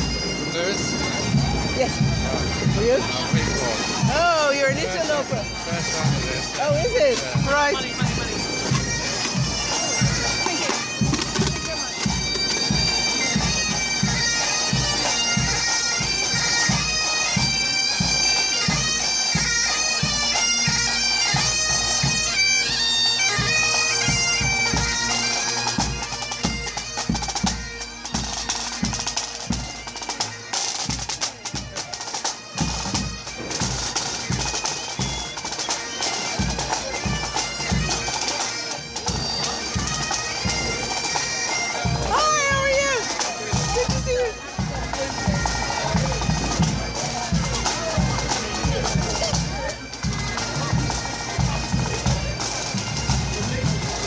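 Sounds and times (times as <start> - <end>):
drum beats: 0.0 - 22.7, 23.3 - 54.0
bagpipes playing marching tune: 0.0 - 54.0.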